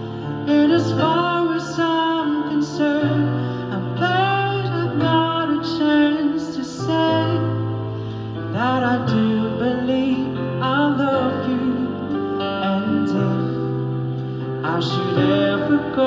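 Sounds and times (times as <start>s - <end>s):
song with person singing: 0.0s - 16.0s.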